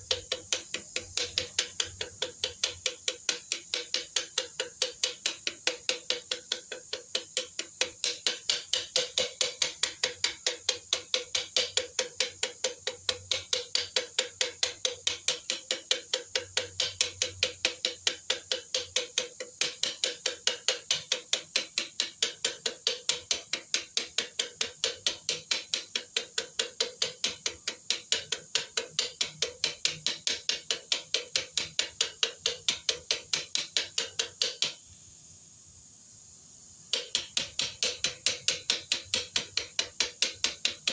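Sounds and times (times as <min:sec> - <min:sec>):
rapid sharp clicking: 0:00.0 - 0:34.8, 0:36.8 - 0:40.9.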